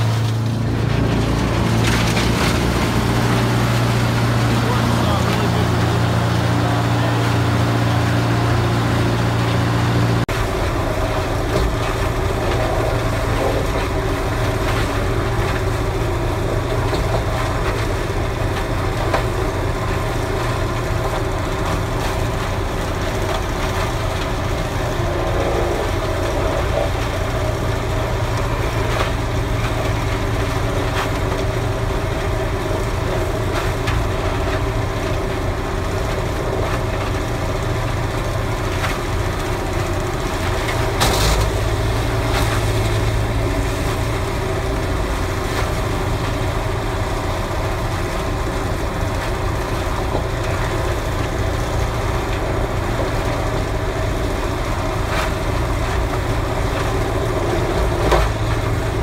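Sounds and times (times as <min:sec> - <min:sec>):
grinder engine drone: 0:00.0 - 0:59.0
wood crackling being ground: 0:00.0 - 0:59.0.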